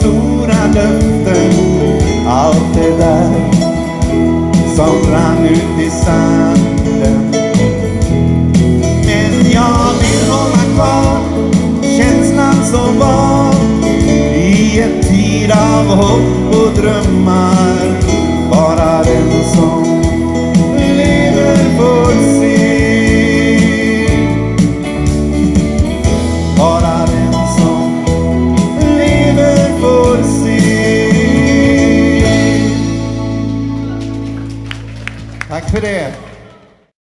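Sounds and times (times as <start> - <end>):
drum kit: 0.0 - 36.1
electric bass: 0.0 - 36.4
electric guitar: 0.0 - 36.6.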